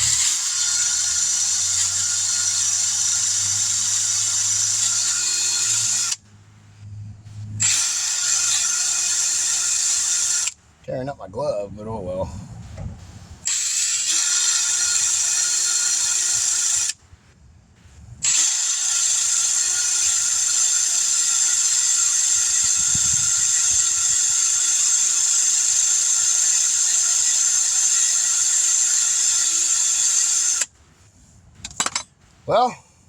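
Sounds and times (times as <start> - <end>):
drill scouring rust: 0.0 - 10.9, 13.4 - 17.0, 17.8 - 30.8.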